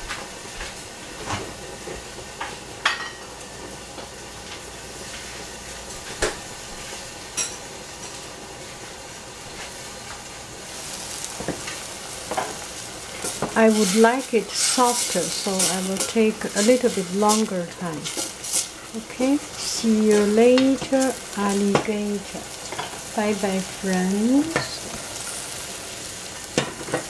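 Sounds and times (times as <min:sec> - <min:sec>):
beans sizzling in a saucepan: 0:00.2 - 0:27.0.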